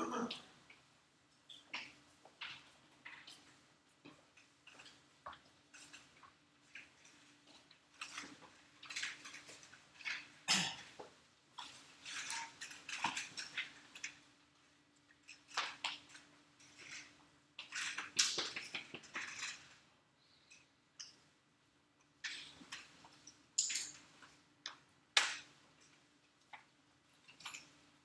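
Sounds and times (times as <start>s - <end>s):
rustling clicks and light clatter: 0.3s - 21.4s, 22.0s - 28.0s.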